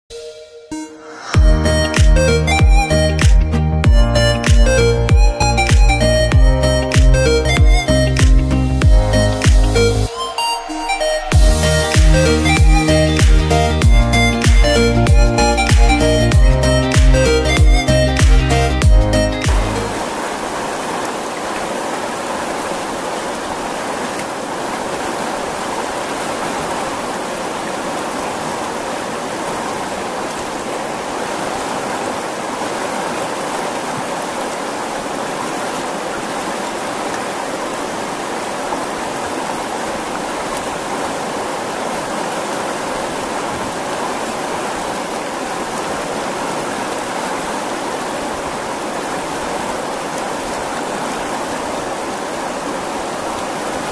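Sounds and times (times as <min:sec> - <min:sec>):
river water rushing past rocks: 0:00.8 - 0:53.9.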